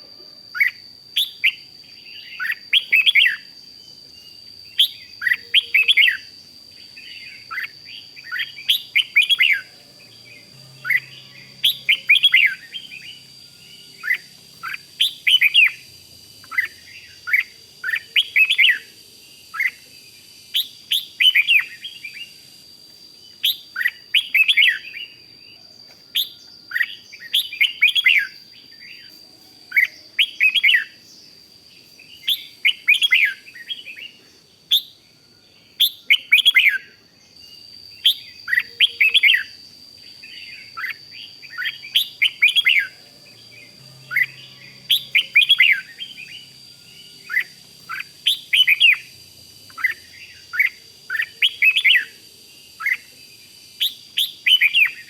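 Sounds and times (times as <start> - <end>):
faint high-pitched whine: 0.0 - 55.0
bird singing chirping notes: 0.6 - 19.9, 26.2 - 53.2.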